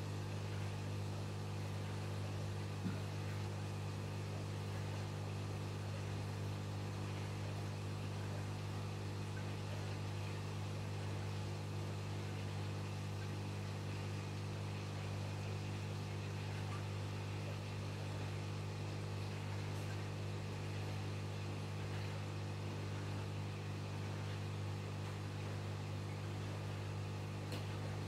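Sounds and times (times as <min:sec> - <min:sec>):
aquarium equipment humming: 0:00.0 - 0:28.0.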